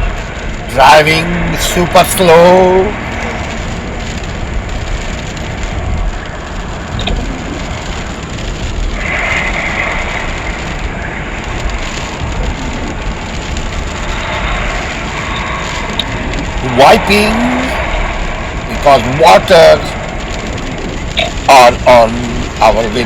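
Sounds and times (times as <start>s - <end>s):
low car rumble: 0.0s - 23.0s
rain and wet tyres hissing: 0.0s - 23.0s.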